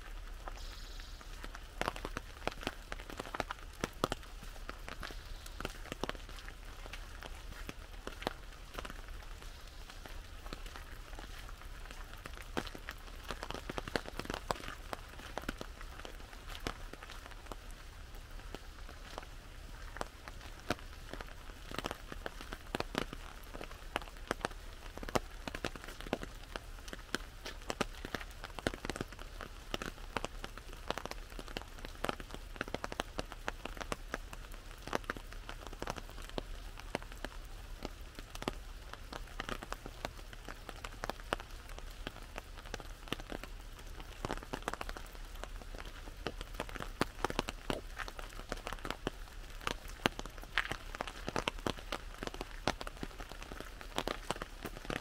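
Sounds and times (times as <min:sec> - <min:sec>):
rain on an umbrella: 0:00.0 - 0:55.0.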